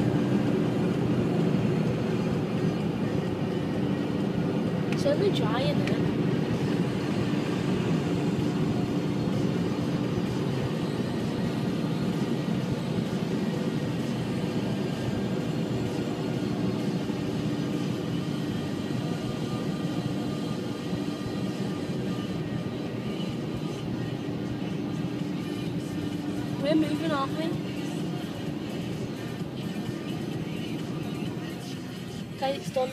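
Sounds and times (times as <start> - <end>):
car wash air blowers running: 0.0 - 32.9.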